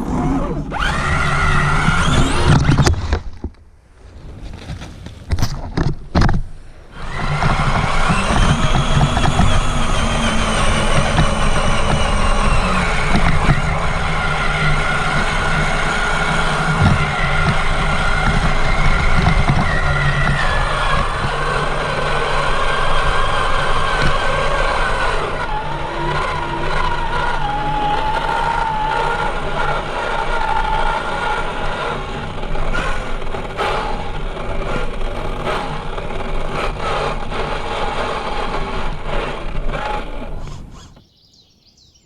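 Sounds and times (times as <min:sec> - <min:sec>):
electric motor whining: 0:00.0 - 0:03.0, 0:06.9 - 0:41.1.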